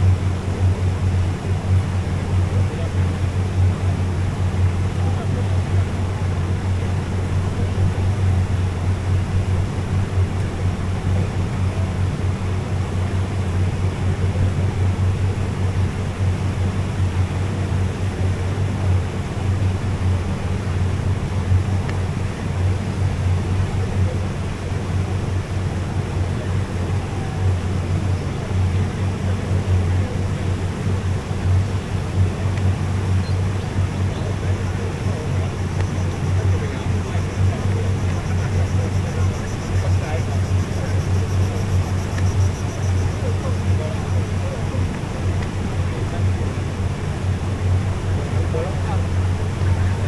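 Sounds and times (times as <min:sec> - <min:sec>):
outboard motor droning: 0:00.0 - 0:50.0.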